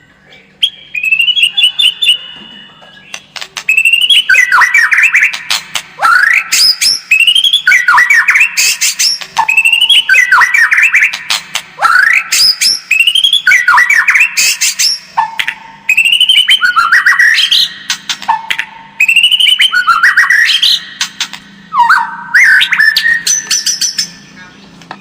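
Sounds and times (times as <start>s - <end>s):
bird singing whistled phrases: 0.6s - 21.0s, 21.6s - 24.4s.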